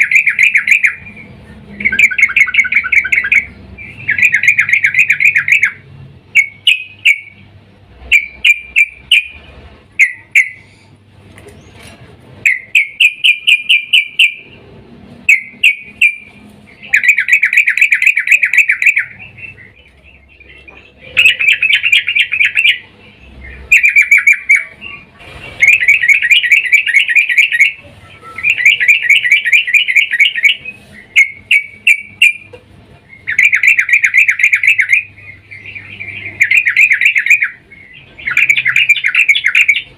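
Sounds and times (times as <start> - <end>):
bird chattering calls: 0.0 - 7.4, 8.0 - 39.9.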